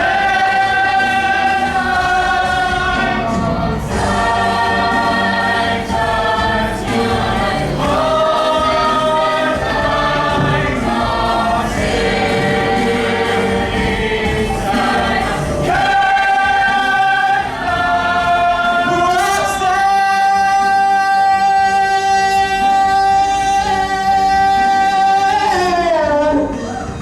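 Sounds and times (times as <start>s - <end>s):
choir singing sustained chords: 0.0s - 25.8s.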